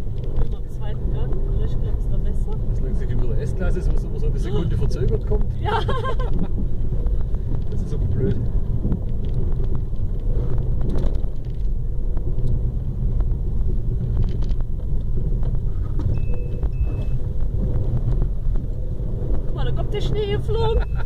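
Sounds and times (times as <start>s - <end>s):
car engine pulling uphill: 0.0s - 21.0s
tyres rumbling on snow: 0.0s - 21.0s.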